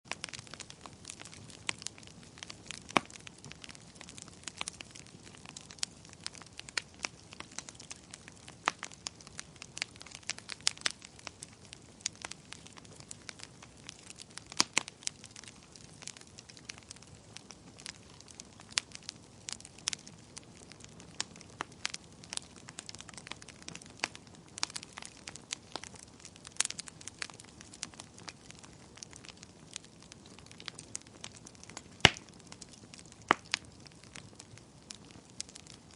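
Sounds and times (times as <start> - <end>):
wood fire crackling: 0.1 - 35.9.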